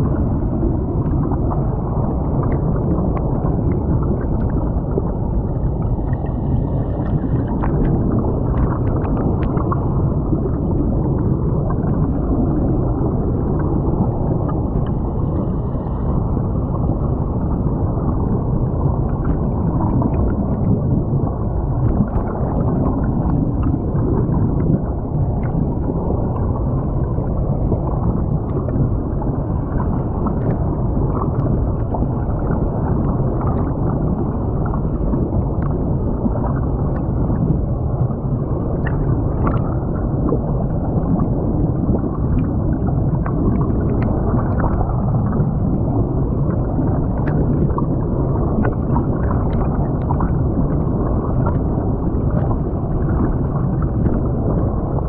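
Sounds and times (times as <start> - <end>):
muffled underwater creek rushing: 0.0 - 55.0.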